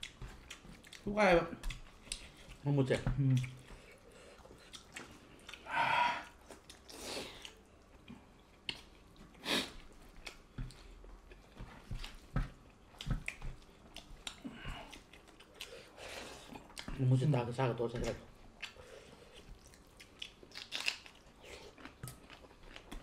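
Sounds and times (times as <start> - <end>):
wet chewing: 0.0 - 17.1, 18.0 - 23.0.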